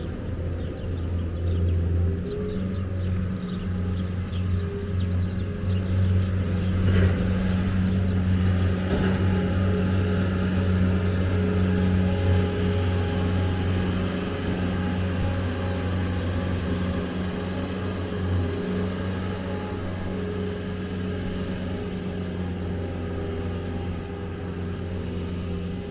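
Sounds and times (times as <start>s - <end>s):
motor humming: 0.0s - 25.9s.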